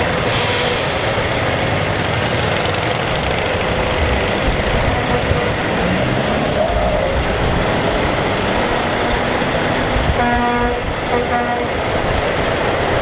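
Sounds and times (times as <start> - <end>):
heavy trucks driving past: 0.0 - 13.0.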